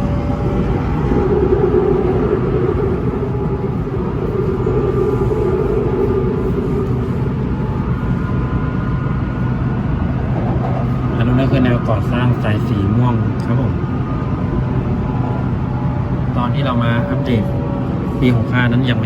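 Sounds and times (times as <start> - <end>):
electric train wheels rumbling: 0.0 - 19.0
train motor humming: 0.0 - 19.0.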